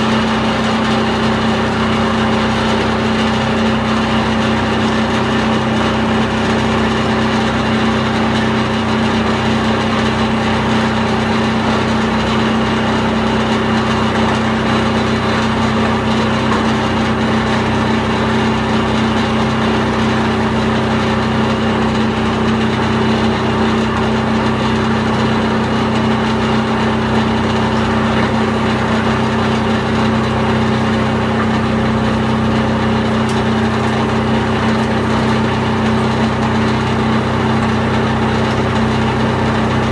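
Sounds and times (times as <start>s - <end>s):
plastic recycling machine humming: 0.0s - 39.9s.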